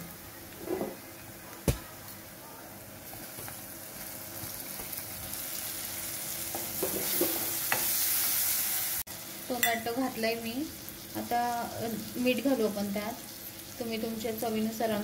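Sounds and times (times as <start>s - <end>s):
vegetables sizzling in oil: 2.1s - 15.0s.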